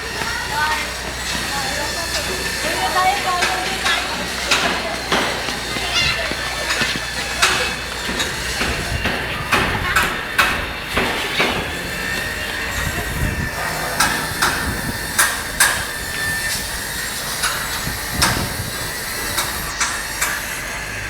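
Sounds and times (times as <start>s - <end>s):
hammer blows: 0.0s - 21.0s.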